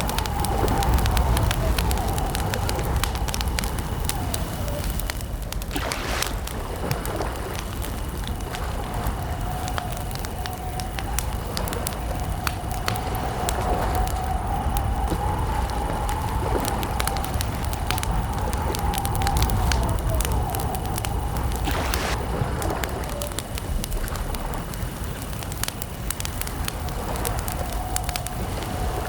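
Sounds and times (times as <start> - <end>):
campfire crackling and popping: 0.0 - 29.0
low steady fire rumble: 0.0 - 29.0.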